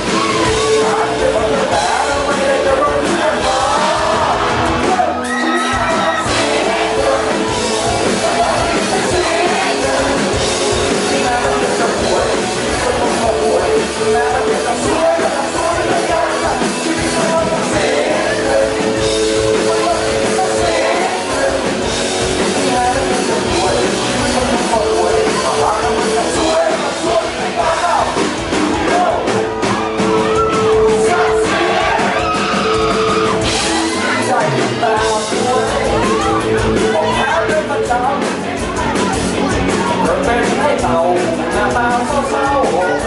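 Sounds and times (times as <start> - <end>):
crowd singing along: 0.0 - 43.0
live rock music with singing: 0.0 - 43.0.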